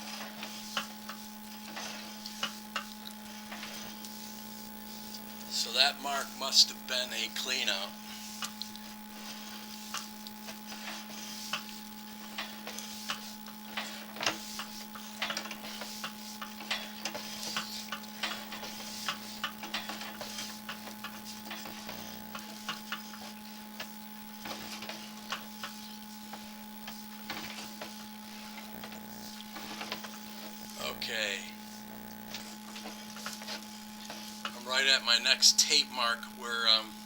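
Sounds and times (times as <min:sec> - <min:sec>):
steady electrical hum: 0:00.0 - 0:37.0.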